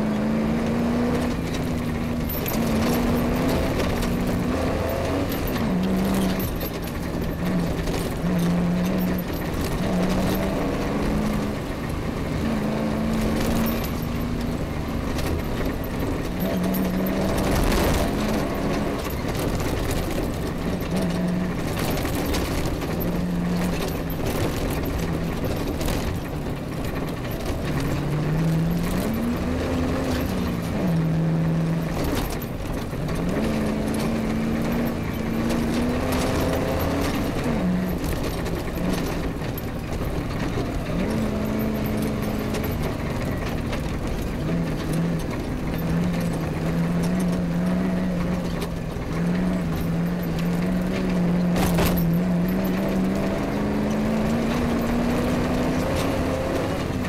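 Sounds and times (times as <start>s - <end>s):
engine revving under load: 0.0s - 57.0s
rough driving noise: 0.0s - 57.0s.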